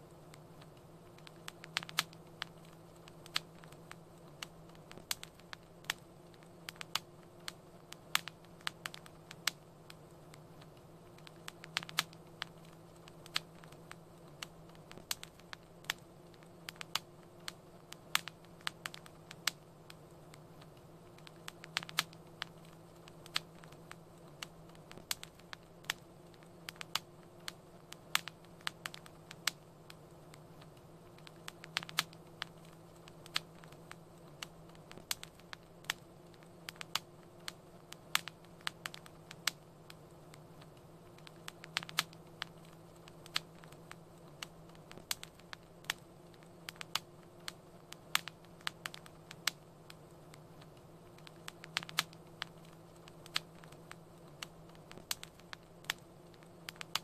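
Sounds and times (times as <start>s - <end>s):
faint low hum: 0.0s - 57.0s
wood fire crackling: 0.0s - 57.0s.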